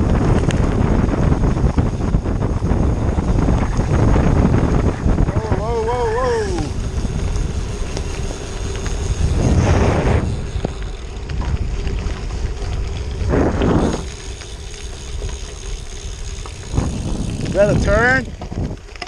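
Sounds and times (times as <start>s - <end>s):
bicycle tyres on wet gravel: 0.0s - 19.0s
wind noise on microphone: 0.0s - 19.0s.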